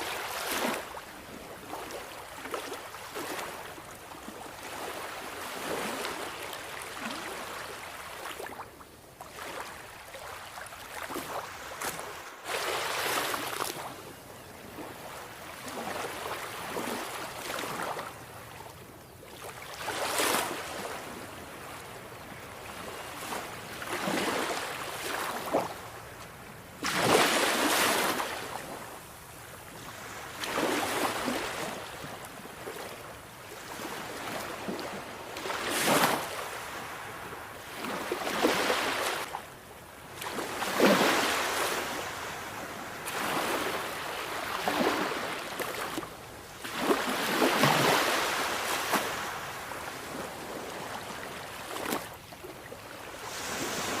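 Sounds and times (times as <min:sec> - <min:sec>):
sea waves breaking on shore: 0:00.0 - 0:18.7, 0:19.3 - 0:54.0.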